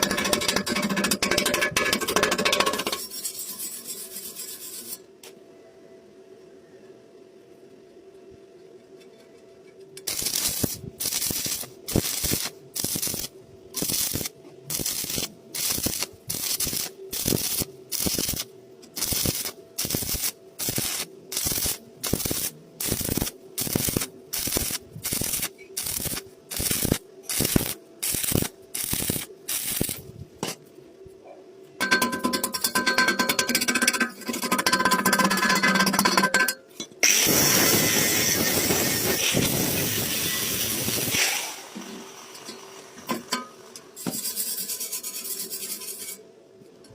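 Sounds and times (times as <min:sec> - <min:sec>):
faint steady hum: 0:00.0 - 0:38.4.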